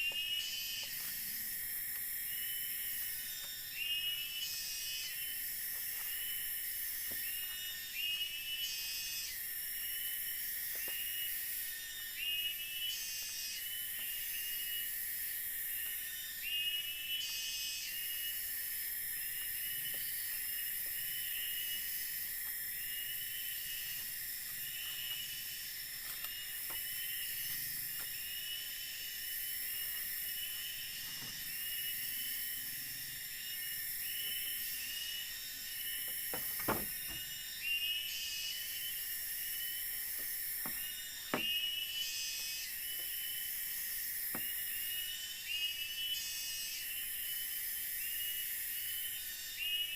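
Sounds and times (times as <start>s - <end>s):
short chirping insect call: 0.0s - 49.9s
high-pitched insect buzzing: 0.1s - 49.9s.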